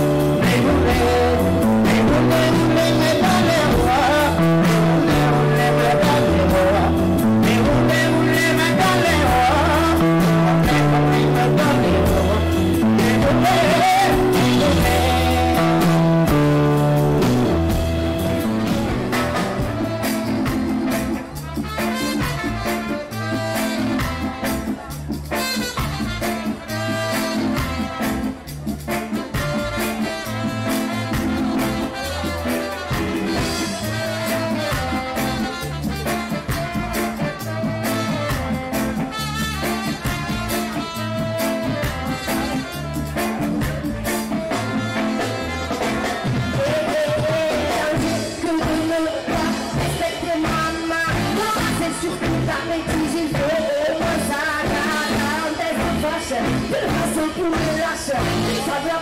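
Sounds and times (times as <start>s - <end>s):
live band music: 0.0s - 59.0s
saxophone and trumpet melody: 0.0s - 59.0s.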